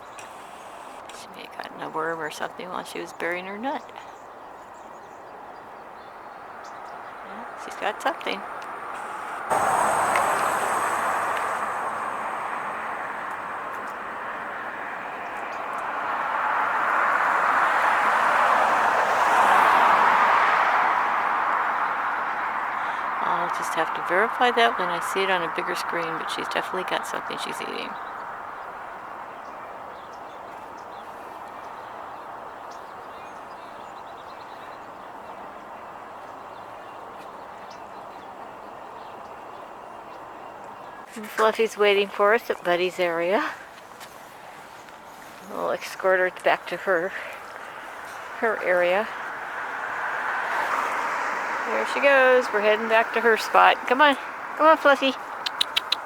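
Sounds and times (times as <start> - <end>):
road traffic tyre noise: 0.0 - 2.5, 3.6 - 56.0
outdoor background hiss: 0.0 - 56.0
vehicle approaching: 7.1 - 29.3, 29.9 - 56.0.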